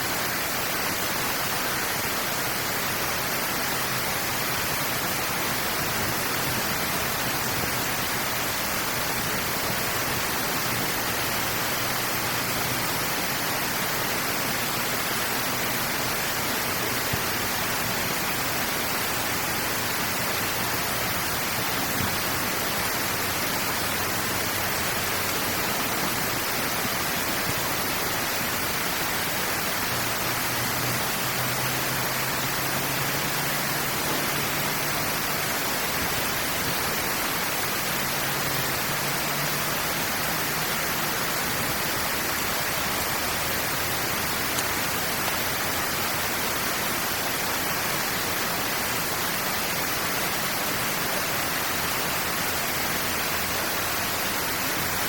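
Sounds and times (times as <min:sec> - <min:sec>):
water rushing through drain outlet: 0:00.0 - 0:55.0.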